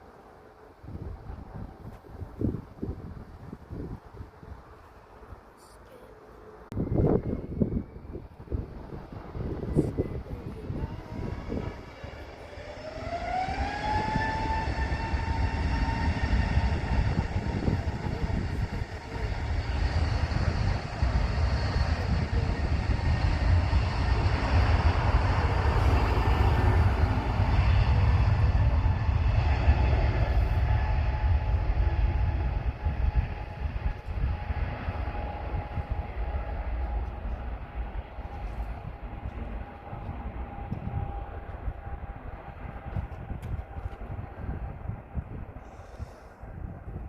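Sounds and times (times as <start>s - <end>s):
jet engines spooling up: 6.8s - 47.0s.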